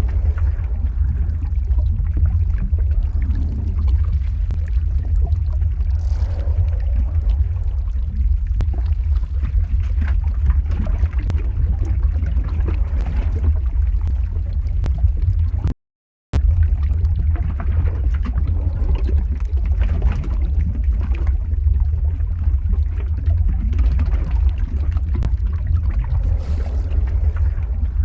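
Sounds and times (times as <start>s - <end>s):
deep steady rumble: 0.0s - 15.8s, 16.4s - 28.0s
liquid bubbling: 0.0s - 15.8s, 16.4s - 28.0s.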